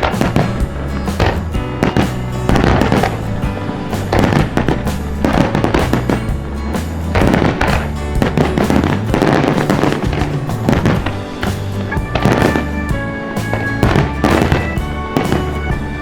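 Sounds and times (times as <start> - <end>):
fireworks bursting and crackling: 0.0 - 16.0
loud music with low notes: 0.0 - 16.0.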